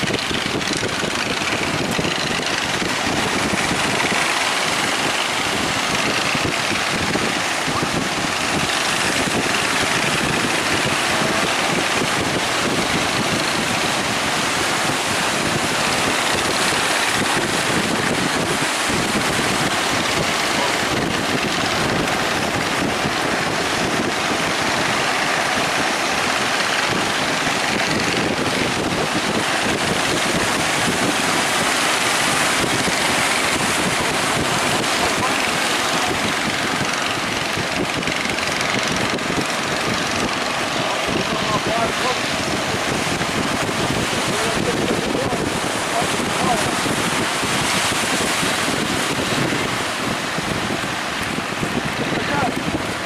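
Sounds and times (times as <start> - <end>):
surf breaking: 0.0 - 53.0
wind buffeting microphone: 0.0 - 53.0.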